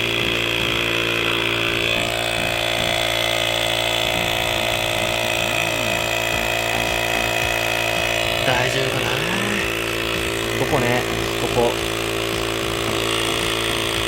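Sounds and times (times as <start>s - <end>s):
electric air compressor running: 0.0s - 14.0s.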